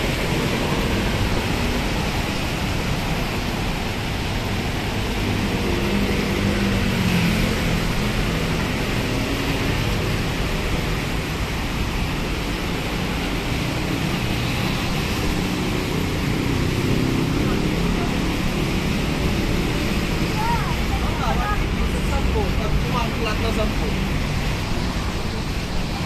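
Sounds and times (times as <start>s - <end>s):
tyres hissing on wet road: 0.0s - 26.0s.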